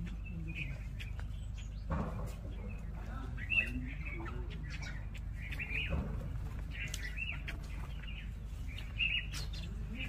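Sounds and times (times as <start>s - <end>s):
low background rumble: 0.0s - 10.0s
songbirds chirping: 0.0s - 10.0s.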